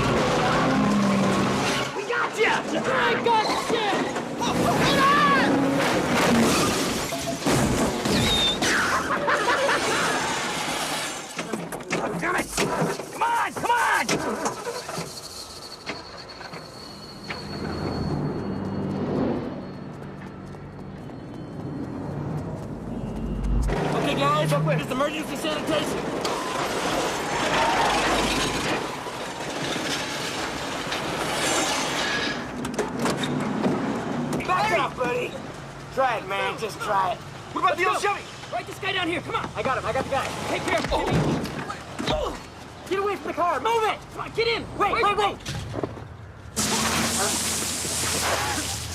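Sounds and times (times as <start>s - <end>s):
car engines and road noise: 0.0s - 48.9s.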